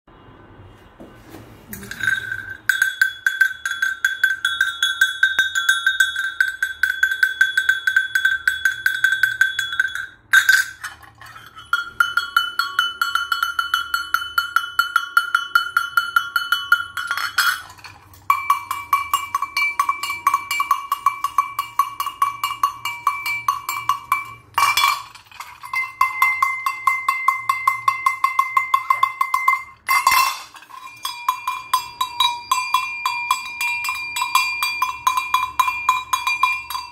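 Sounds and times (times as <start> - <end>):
metal livestock bells clanking: 1.8 - 36.9.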